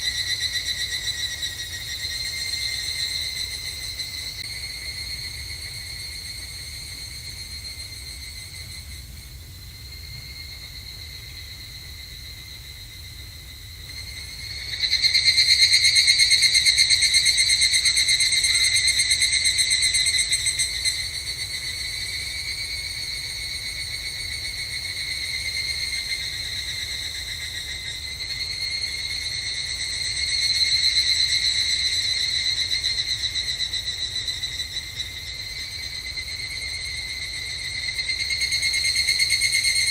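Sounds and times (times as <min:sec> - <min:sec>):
cicadas pulsing trill: 0:00.0 - 0:39.9.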